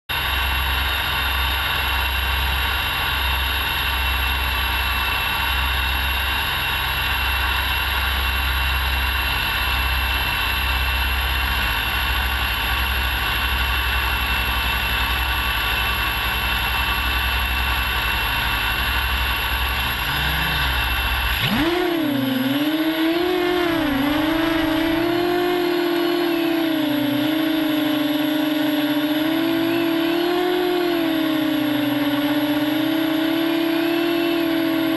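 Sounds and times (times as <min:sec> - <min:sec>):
drone motors whining: 0:00.1 - 0:34.9.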